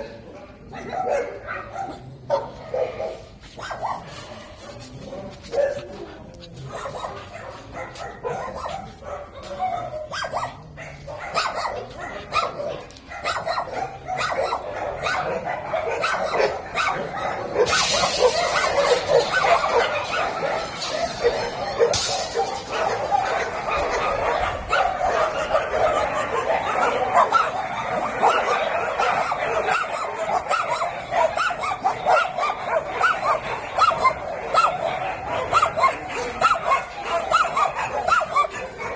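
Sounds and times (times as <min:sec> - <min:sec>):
dogs barking and yipping: 0:00.0 - 0:38.9.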